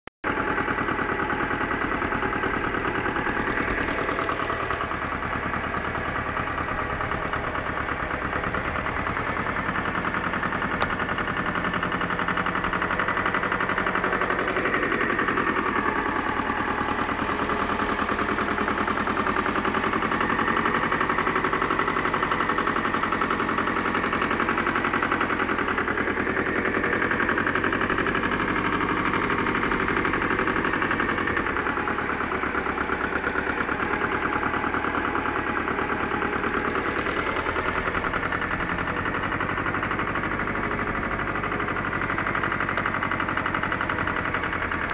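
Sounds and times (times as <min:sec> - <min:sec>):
diesel tractor engine knocking: 0:00.2 - 0:44.9.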